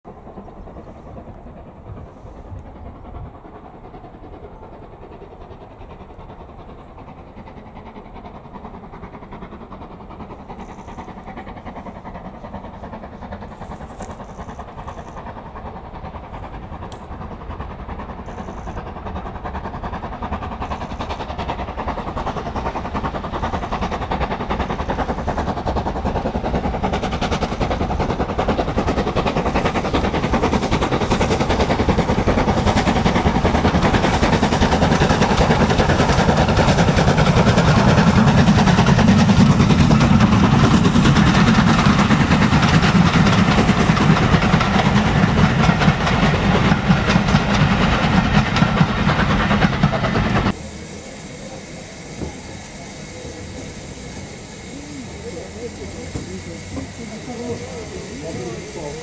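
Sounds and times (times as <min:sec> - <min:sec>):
steam locomotive approaching: 0:00.0 - 0:59.0.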